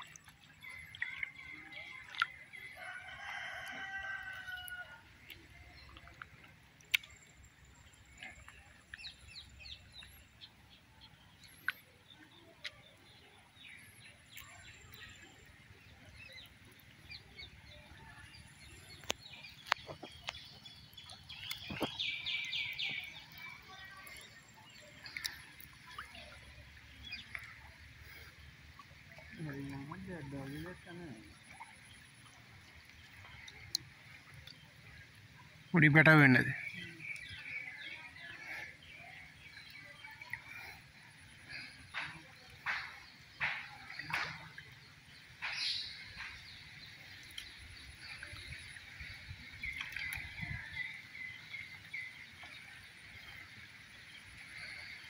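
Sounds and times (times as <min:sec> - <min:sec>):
water splashes: 0:00.0 - 0:55.0.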